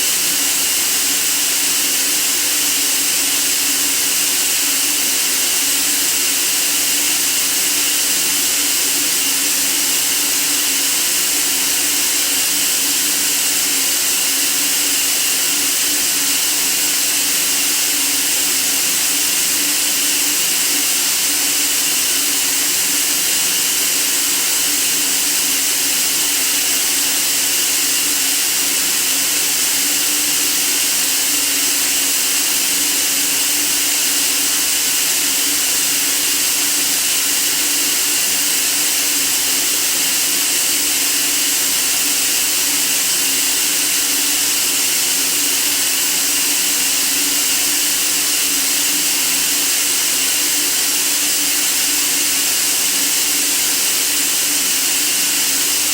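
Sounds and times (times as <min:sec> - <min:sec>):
white noise hiss: 0:00.0 - 0:55.9.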